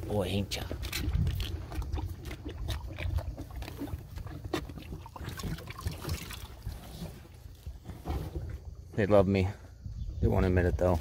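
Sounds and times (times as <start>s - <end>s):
calves slurping from bucket: 0.0s - 8.8s.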